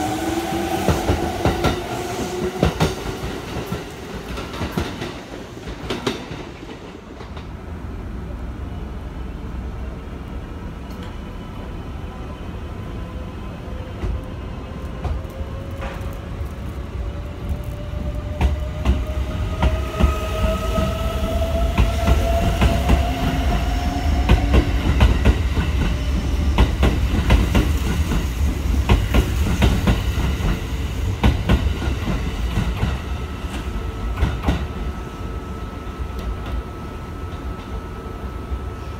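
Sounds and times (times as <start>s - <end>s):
train rumble: 0.0s - 38.9s.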